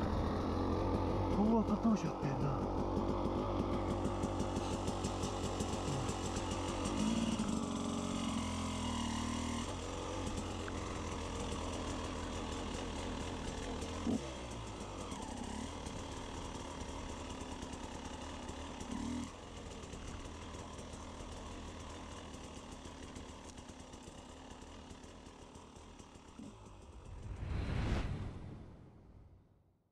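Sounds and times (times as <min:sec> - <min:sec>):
motorcycle engine running: 0:00.0 - 0:27.5.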